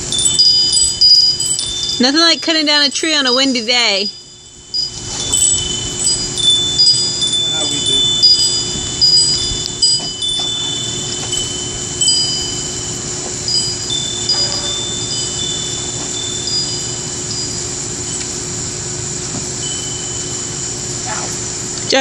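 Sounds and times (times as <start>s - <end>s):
background rush of wind: 0.0s - 22.0s
wind chimes ringing: 0.0s - 22.0s.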